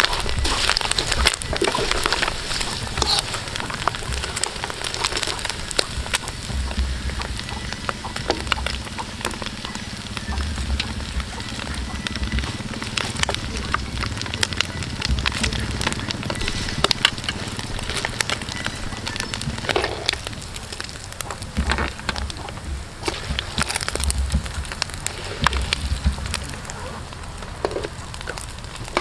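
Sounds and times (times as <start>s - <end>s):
oil sizzling with pops: 0.0s - 29.0s.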